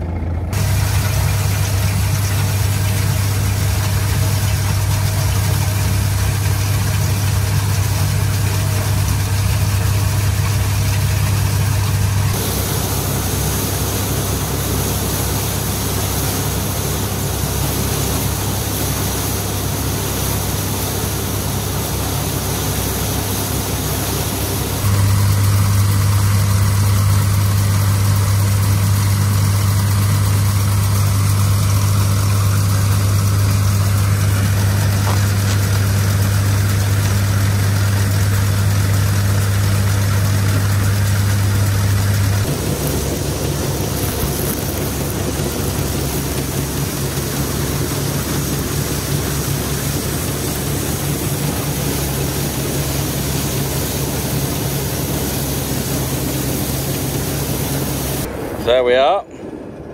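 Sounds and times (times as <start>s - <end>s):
combine harvester engine hum: 0.0s - 59.9s
hiss of machinery: 0.6s - 58.5s.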